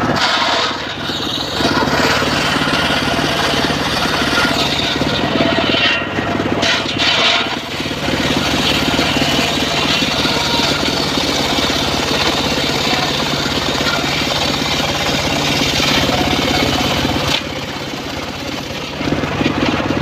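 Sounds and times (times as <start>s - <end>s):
circular saw cutting wood: 0.0s - 20.0s
engine throbbing: 0.0s - 20.0s.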